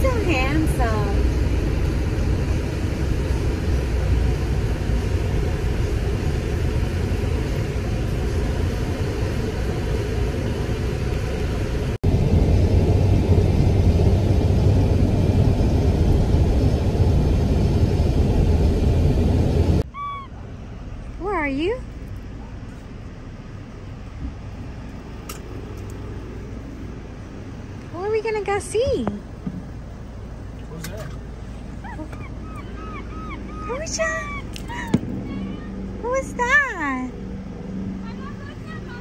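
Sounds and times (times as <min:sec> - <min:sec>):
road and engine rumble in cabin: 0:00.0 - 0:39.0.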